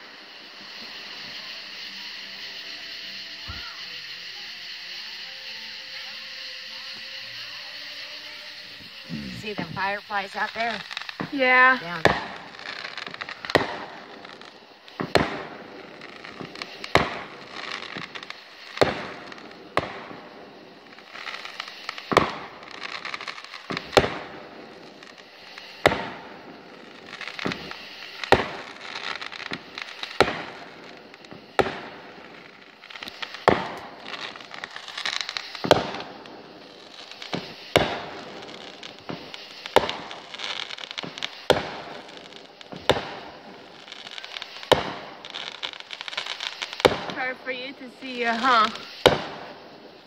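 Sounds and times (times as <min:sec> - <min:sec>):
fireworks bangs: 0:00.0 - 0:50.0
fireworks crackling and hissing: 0:00.0 - 0:50.0.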